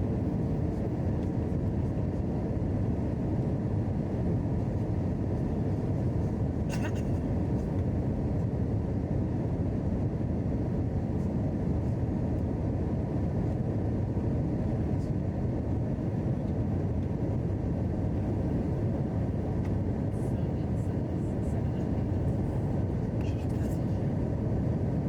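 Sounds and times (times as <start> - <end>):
aircraft cabin engine rumble: 0.0 - 25.0.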